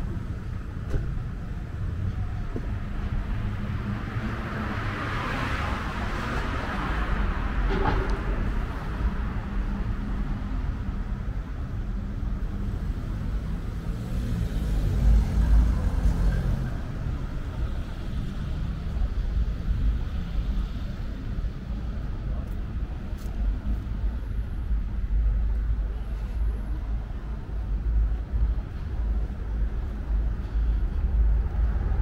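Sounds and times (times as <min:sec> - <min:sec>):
low rumble of road traffic: 0:00.0 - 0:32.0.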